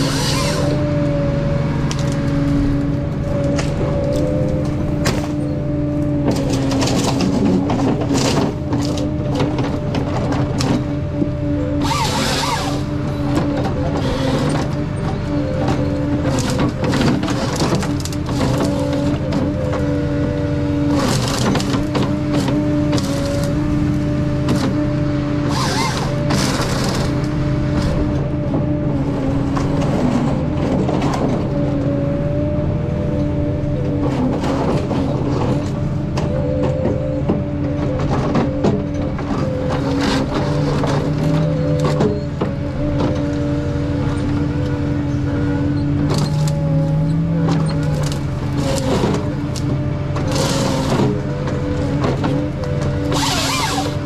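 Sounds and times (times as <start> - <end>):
harvester engine and hydraulic drone: 0.0 - 54.0.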